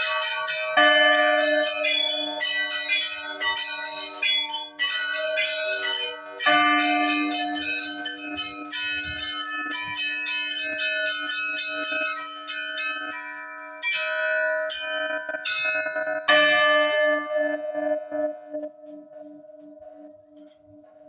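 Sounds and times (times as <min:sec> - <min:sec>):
bells ringing: 0:00.0 - 0:20.8.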